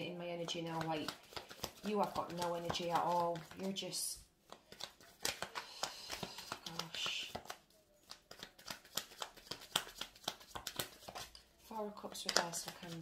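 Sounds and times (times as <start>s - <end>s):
cards being shuffled: 0.4s - 11.5s, 12.1s - 13.0s.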